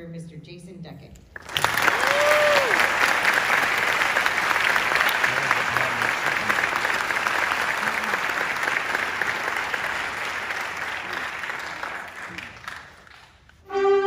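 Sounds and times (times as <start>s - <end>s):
audience applauding: 1.4s - 13.6s.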